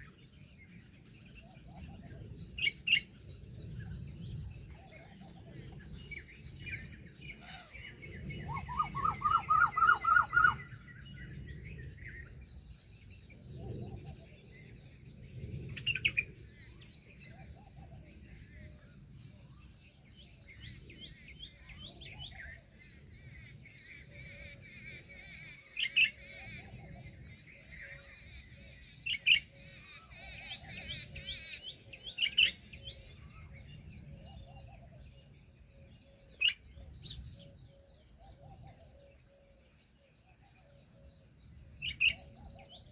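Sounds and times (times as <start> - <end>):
birds chirping and calling: 0.0 - 42.9.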